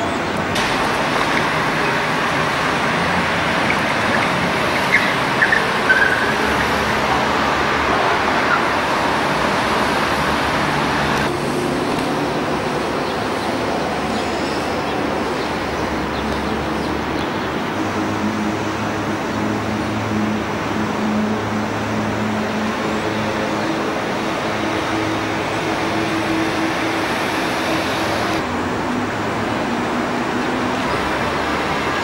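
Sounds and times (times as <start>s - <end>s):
road traffic: 0.0s - 32.0s
trolleybus moving: 0.0s - 32.0s.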